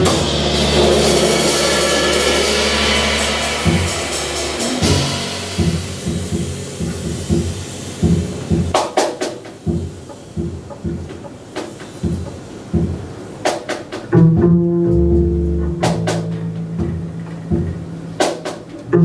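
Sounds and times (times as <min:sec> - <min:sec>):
plucked double bass: 0:00.0 - 0:08.8, 0:09.6 - 0:11.4, 0:14.1 - 0:19.0
jazz band with cymbal wash: 0:00.0 - 0:19.0.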